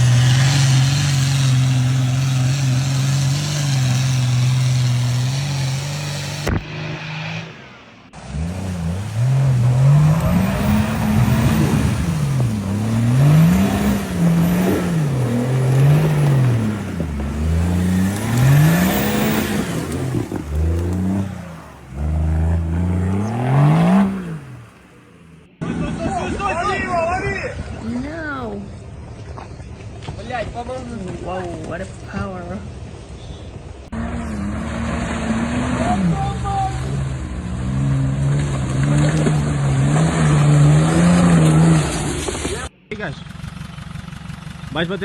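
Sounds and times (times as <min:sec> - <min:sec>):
off-road engine revving: 0:00.0 - 0:26.7, 0:33.8 - 0:45.0.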